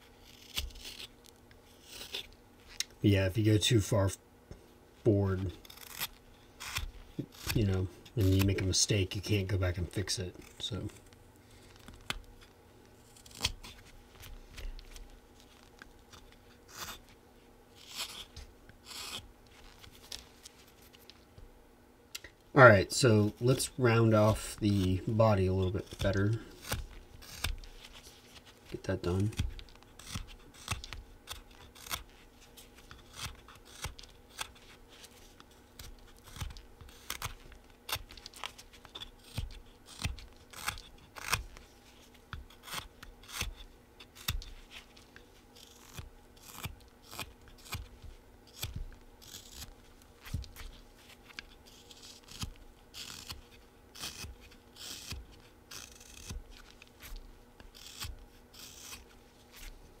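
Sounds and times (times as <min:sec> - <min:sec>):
knife carving wood: 0:00.0 - 0:02.9, 0:05.4 - 0:20.2, 0:23.1 - 0:59.8.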